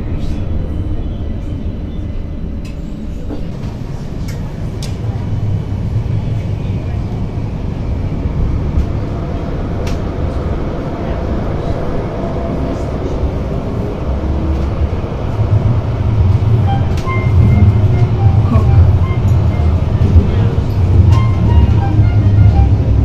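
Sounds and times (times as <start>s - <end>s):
tram rumbling on track: 0.0s - 23.0s.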